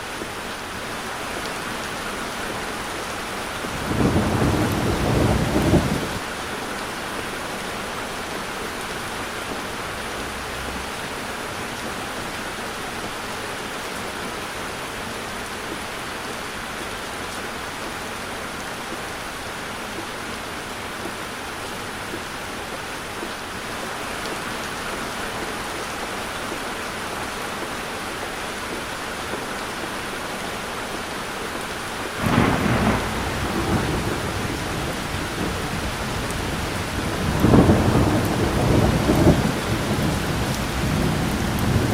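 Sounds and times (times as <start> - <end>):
heavy rain drumming on car: 0.0 - 41.9.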